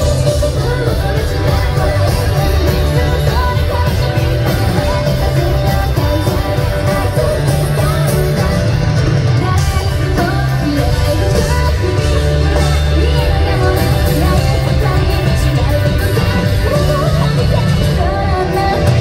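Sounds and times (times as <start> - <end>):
lead vocal singing: 0.0 - 19.0
live rock band playing: 0.0 - 19.0.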